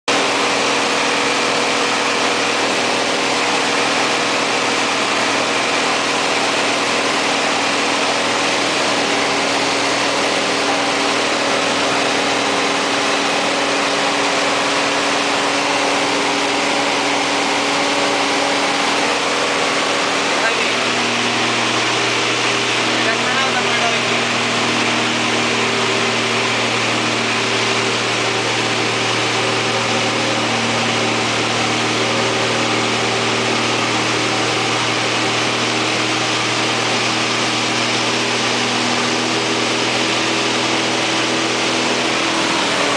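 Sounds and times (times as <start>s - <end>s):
propeller plane engine drone: 0.1s - 42.9s.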